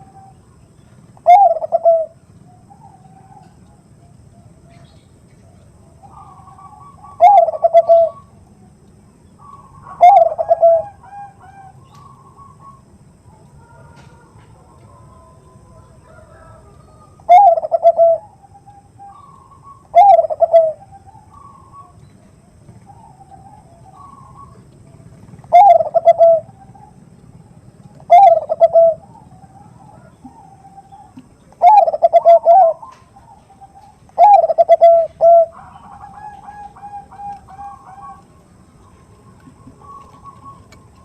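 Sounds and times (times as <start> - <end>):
dove cooing: 0.0 - 8.8, 9.4 - 41.0.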